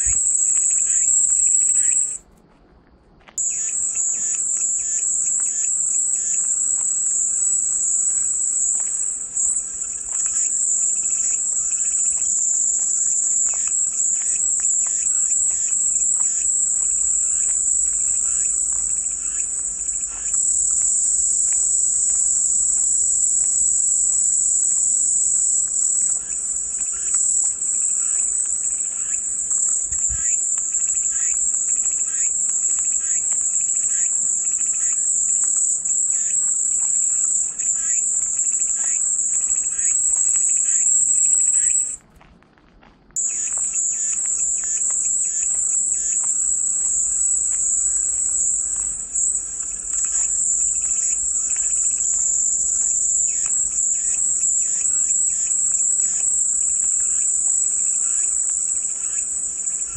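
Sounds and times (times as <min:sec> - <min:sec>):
cicadas buzzing: 0:00.0 - 0:02.2, 0:03.3 - 0:42.0, 0:43.2 - 0:59.9.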